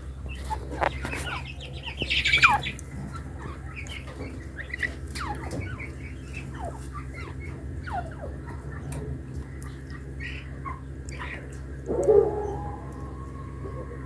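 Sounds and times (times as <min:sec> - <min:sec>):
low steady hum: 0:00.0 - 0:14.0
partridges calling: 0:00.0 - 0:14.0.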